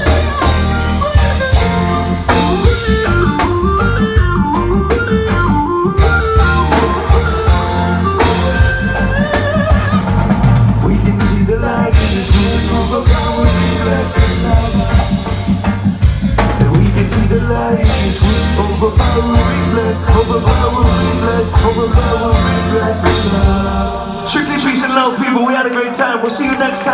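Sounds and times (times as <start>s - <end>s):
reggae band playing: 0.0s - 26.9s.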